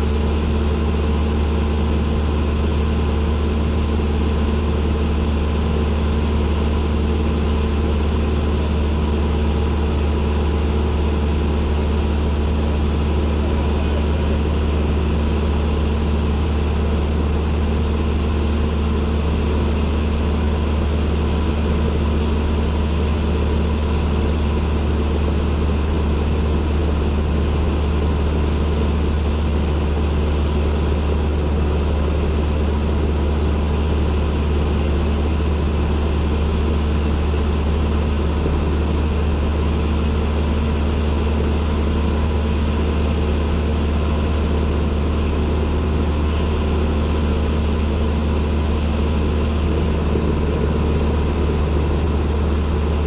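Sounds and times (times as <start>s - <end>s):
airplane engine and propeller drone: 0.0s - 53.0s.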